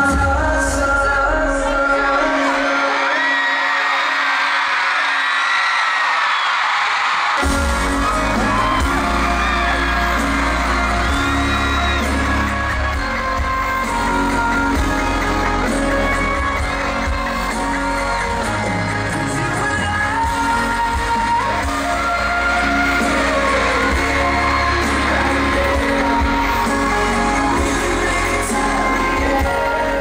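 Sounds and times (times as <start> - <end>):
person singing: 0.0 - 4.4, 7.4 - 30.0
pop band with heavy bass and drums: 0.0 - 4.9, 7.0 - 30.0
fans screaming: 1.4 - 30.0.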